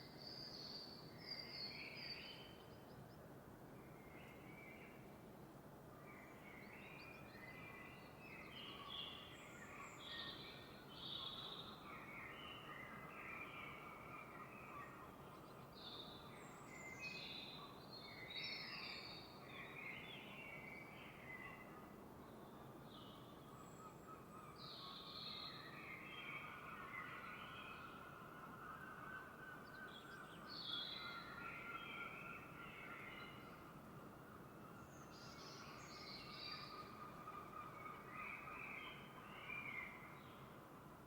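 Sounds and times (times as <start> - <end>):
low outdoor hiss: 0.0 - 41.0.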